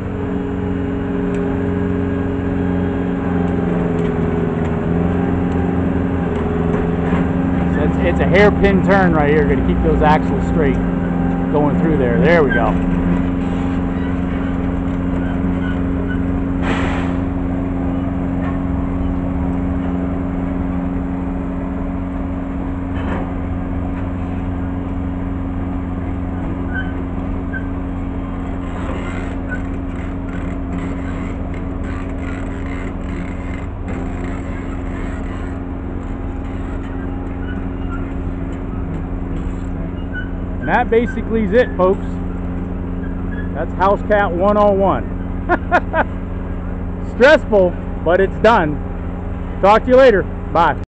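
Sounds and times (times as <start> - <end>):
small dozer engine running: 0.0 - 50.8.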